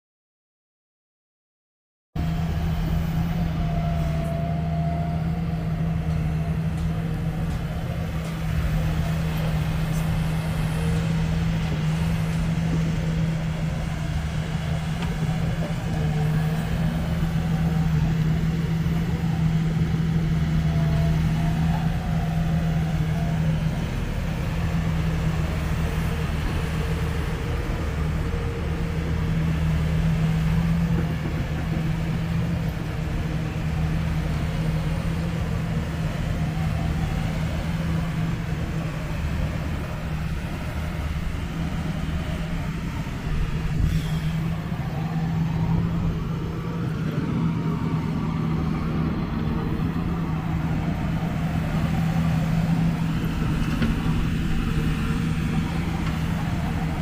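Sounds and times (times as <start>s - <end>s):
excavator diesel engine running: 2.2s - 57.0s.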